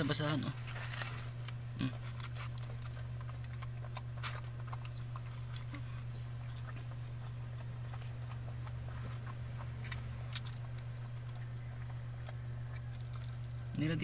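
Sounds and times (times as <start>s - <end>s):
low hum: 0.0s - 14.0s
dog licking puppy: 2.3s - 14.0s.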